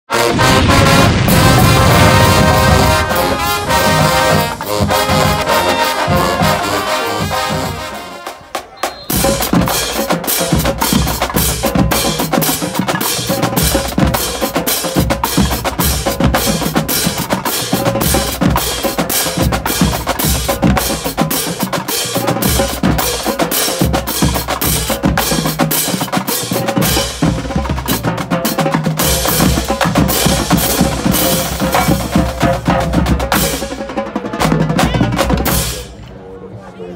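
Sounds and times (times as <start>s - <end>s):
marching band brass: 0.0s - 36.0s
drumline cadence: 0.1s - 36.2s.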